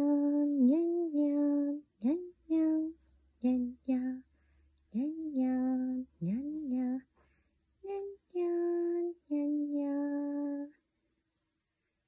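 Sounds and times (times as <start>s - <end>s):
woman singing wordless tune: 0.0s - 7.1s, 7.8s - 10.8s.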